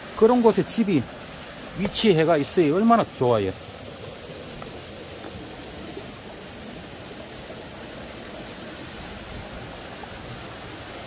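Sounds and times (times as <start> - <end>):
stream rushing over boulders: 0.0 - 11.0
waterfall pouring: 0.0 - 11.0.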